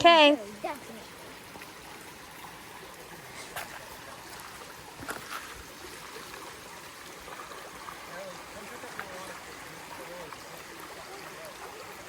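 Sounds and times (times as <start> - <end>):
stream trickling over rocks: 0.0 - 12.0.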